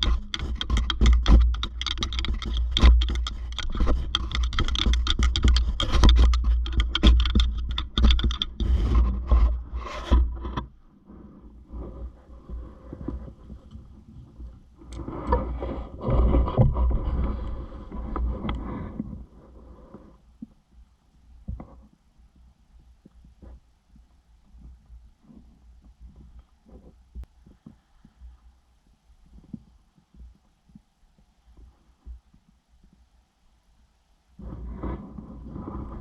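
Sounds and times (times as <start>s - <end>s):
close rustling and scraping: 0.0s - 20.8s, 21.4s - 33.1s, 34.4s - 36.0s.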